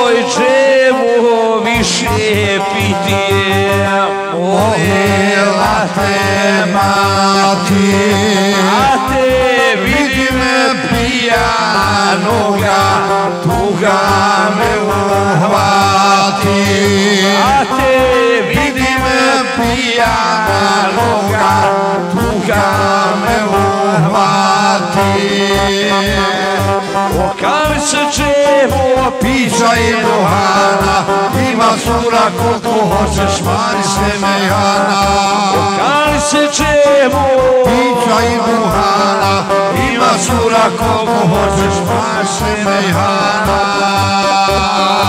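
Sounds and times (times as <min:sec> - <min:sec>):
keyboard bass and drum beat: 0:00.0 - 0:45.0
keyboard playing: 0:00.0 - 0:45.0
men singing: 0:00.0 - 0:45.0
saz playing: 0:00.0 - 0:45.0.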